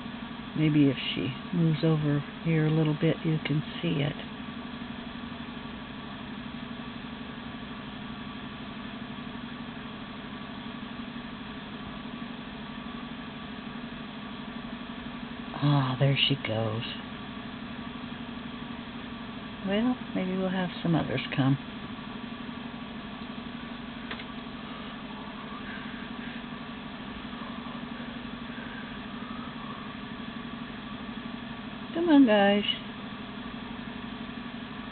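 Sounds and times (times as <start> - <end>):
low mechanical hum: 0.0 - 34.9.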